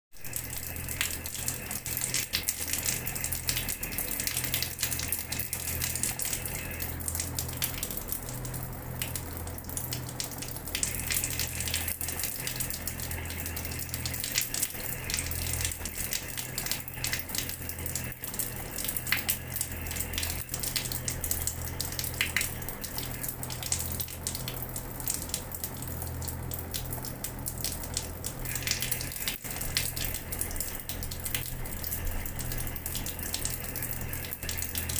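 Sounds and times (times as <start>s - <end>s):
low even hum: 0.2s - 34.9s.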